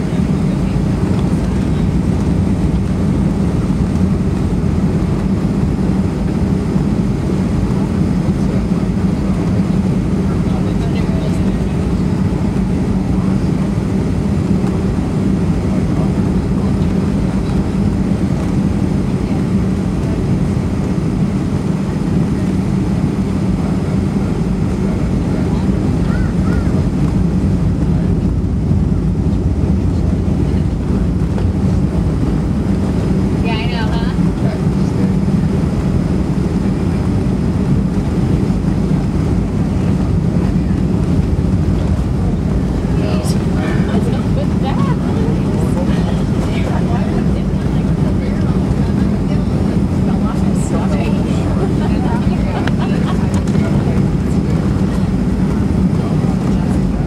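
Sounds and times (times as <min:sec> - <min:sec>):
aircraft engine noise: 0:00.0 - 0:57.0
airflow in cockpit: 0:00.0 - 0:57.0
constant low hum: 0:00.0 - 0:57.0.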